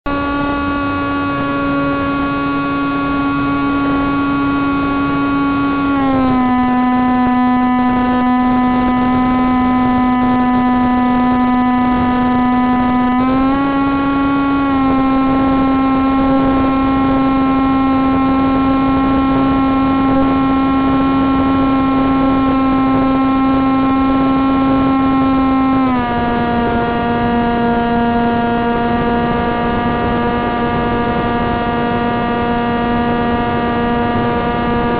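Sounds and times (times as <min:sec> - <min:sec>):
electric motor spinning propeller: 0:00.1 - 0:34.9.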